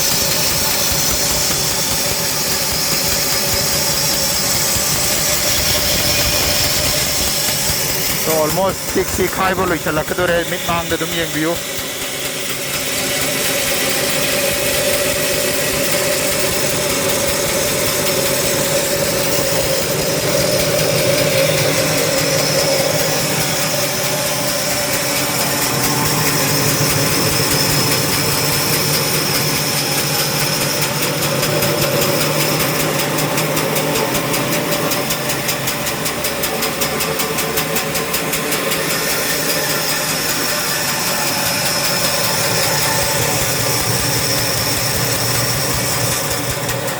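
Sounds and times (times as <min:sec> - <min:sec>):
fine rapid rattle: 0:00.0 - 0:46.9
sawmill saw cutting wood: 0:00.0 - 0:46.9.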